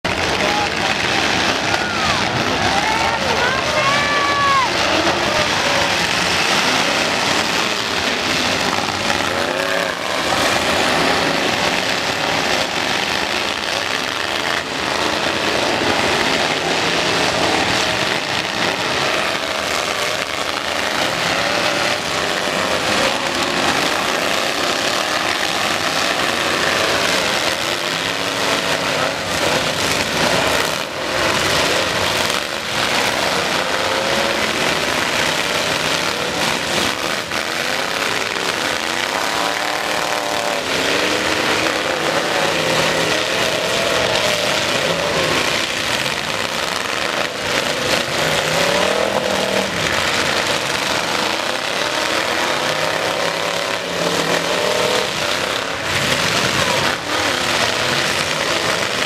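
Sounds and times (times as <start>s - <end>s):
truck engines revving: 0.0s - 59.0s
trucks crashing: 0.0s - 59.0s.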